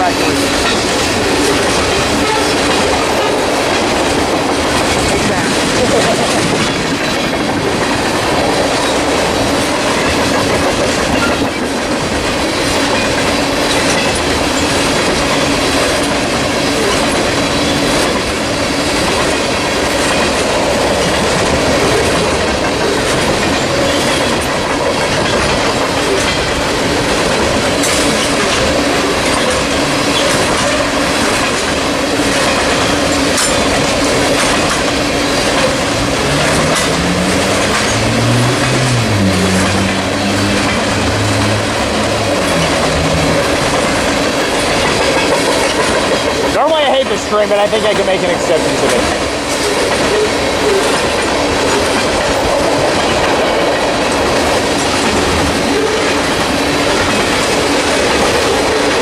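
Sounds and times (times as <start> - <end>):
freight train cars rolling: 0.0 - 59.0
wheels clacking over rail joints: 0.0 - 59.0.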